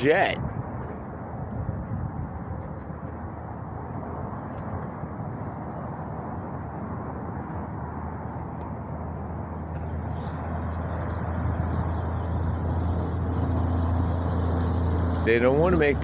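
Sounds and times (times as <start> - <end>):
low hum: 0.0 - 16.0
steady rushing rumble: 0.0 - 16.0.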